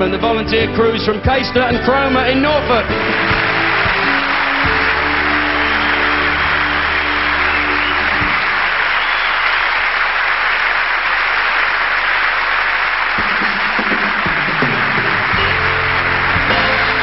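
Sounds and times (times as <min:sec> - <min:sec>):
audience applauding: 0:02.0 - 0:17.0.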